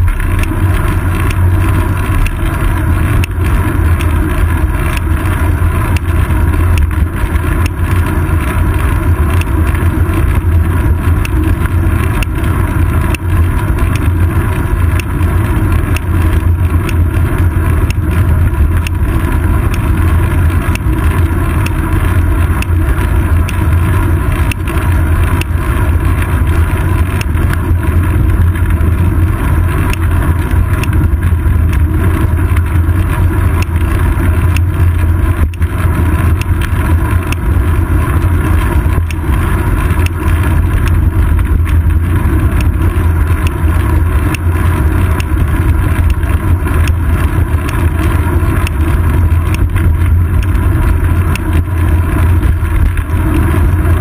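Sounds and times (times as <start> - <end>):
bicycle ticks and rattles: 0.0 - 54.0
wind and road rumble: 0.0 - 54.0.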